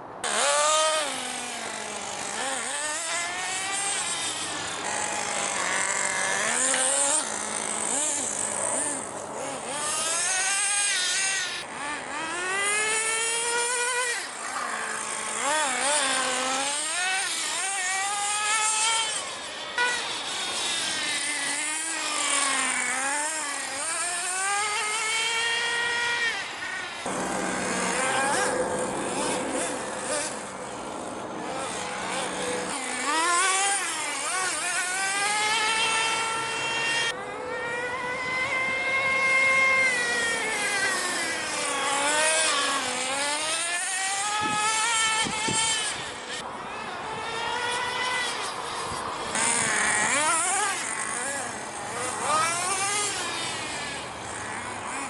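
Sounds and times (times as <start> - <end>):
small engine revving whine: 0.0 - 55.0.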